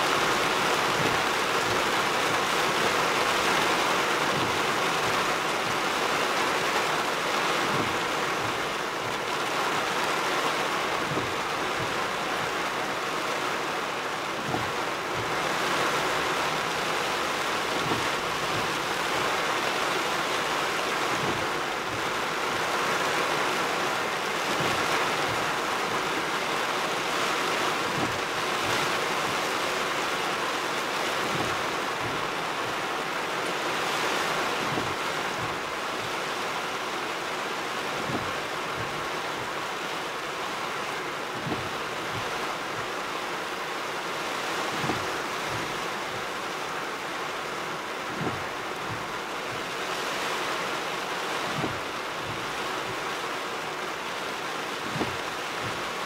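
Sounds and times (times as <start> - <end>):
heavy rain on vehicle roof: 0.0 - 56.0.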